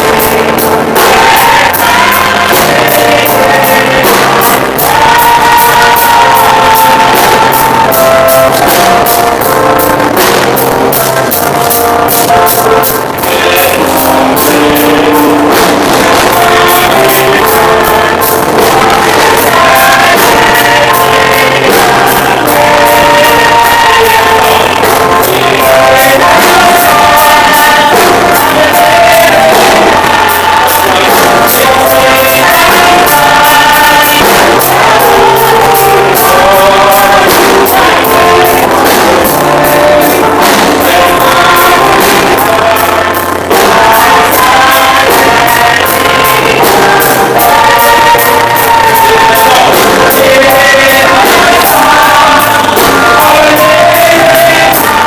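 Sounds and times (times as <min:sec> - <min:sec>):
gospel band music with singing: 0:00.0 - 0:55.0.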